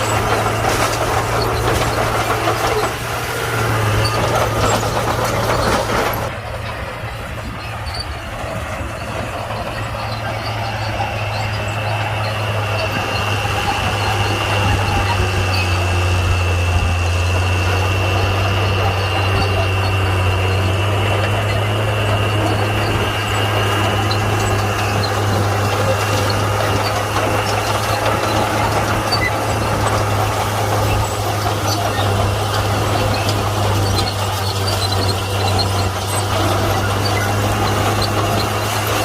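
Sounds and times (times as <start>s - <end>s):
bulldozer diesel engine drone: 0.0s - 39.0s.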